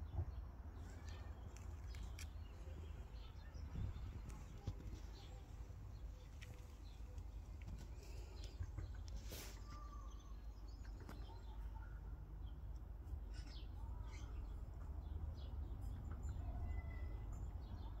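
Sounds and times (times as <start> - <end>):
birds chirping: 0.3 - 18.0.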